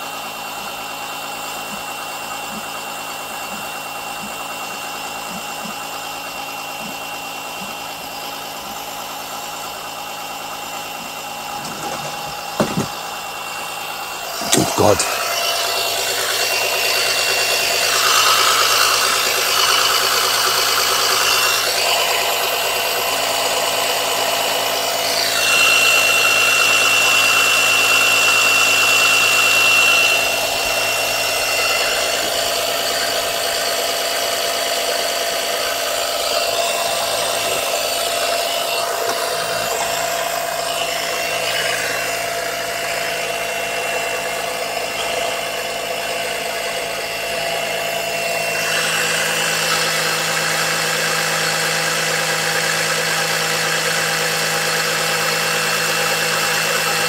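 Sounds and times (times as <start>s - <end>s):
oil suction pump humming: 0.0s - 57.0s.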